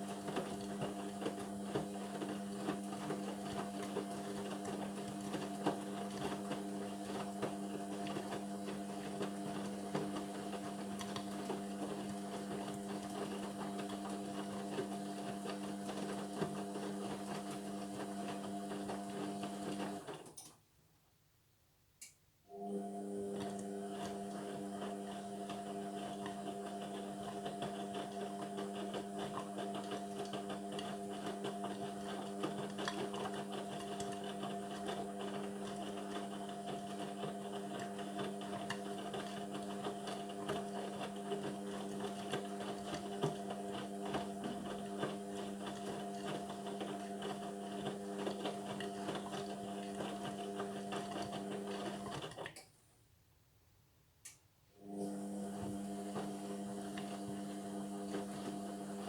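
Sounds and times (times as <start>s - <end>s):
washing machine motor hum: 0.0s - 20.3s, 22.5s - 52.6s, 54.8s - 59.0s.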